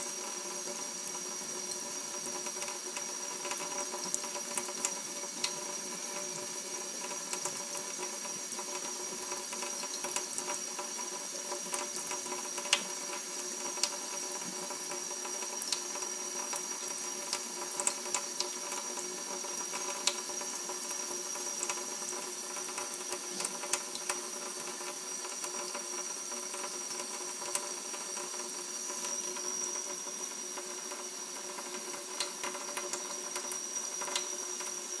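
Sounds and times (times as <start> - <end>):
faucet running into steel sink: 0.0 - 35.0.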